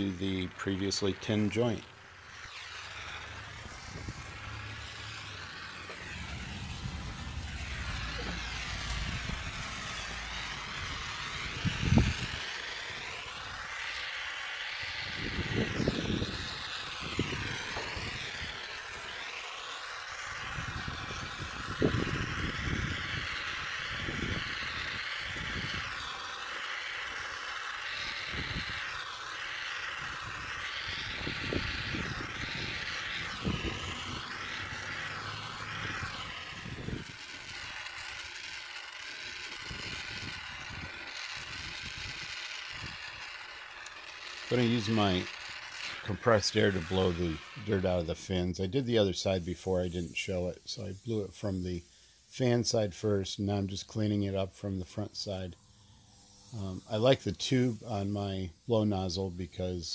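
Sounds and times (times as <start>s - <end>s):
gas torch flame hissing: 0.0s - 59.9s.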